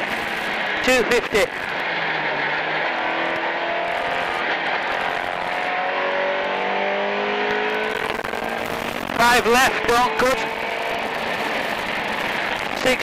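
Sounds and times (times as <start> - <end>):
rally car engine accelerating: 0.0 - 13.0
tyre and road noise: 0.0 - 13.0.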